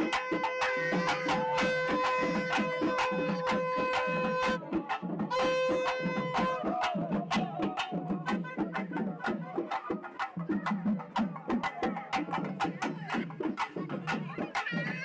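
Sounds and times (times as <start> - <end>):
music with fast percussion beat: 0.0 - 15.0.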